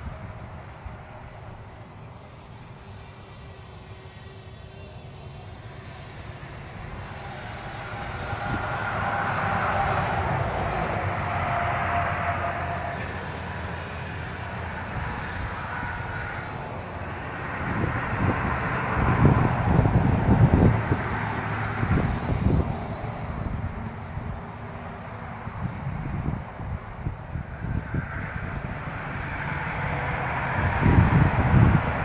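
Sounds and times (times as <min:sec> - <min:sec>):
large vehicle rumble: 0:00.0 - 0:32.0
wind buffeting microphone: 0:05.9 - 0:32.0.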